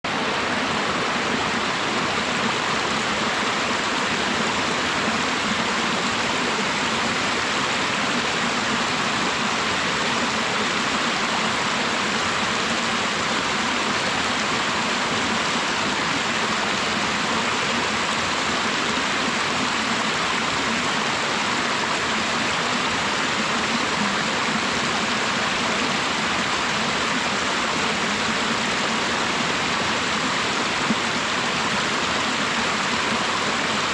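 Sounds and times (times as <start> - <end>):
stream and waterfall rushing: 0.0 - 33.9.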